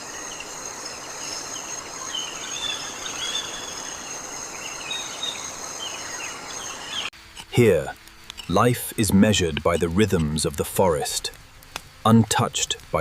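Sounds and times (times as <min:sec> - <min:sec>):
insects droning: 0:00.0 - 0:13.0
soft background hiss: 0:00.0 - 0:13.0.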